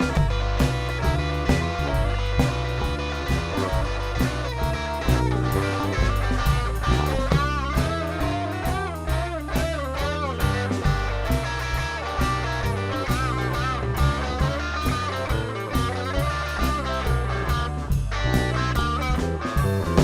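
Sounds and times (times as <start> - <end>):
electric guitar lead: 0.0 - 20.0
rock band playing: 0.0 - 20.0.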